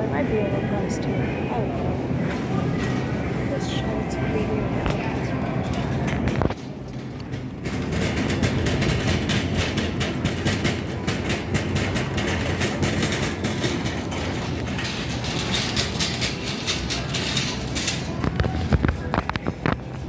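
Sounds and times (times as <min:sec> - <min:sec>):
shopping cart rattling: 0:02.2 - 0:20.0.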